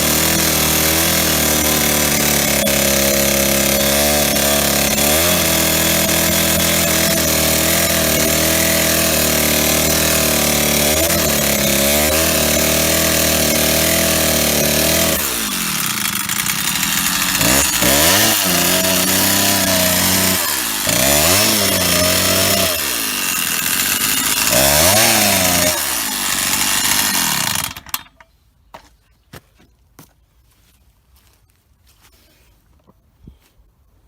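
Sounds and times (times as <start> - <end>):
chainsaw cutting log: 0.0 - 28.2.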